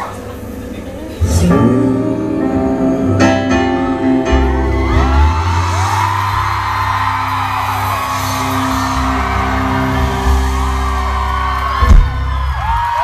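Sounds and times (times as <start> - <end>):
audience screaming and whooping: 0.0 - 13.0
live band playing chords: 0.0 - 13.0.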